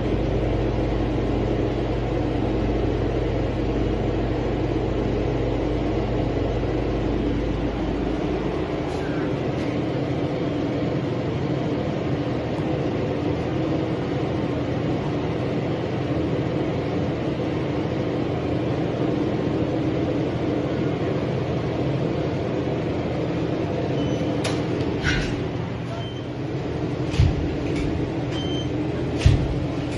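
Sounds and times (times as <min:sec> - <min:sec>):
vehicle engine hum: 0:00.0 - 0:29.9.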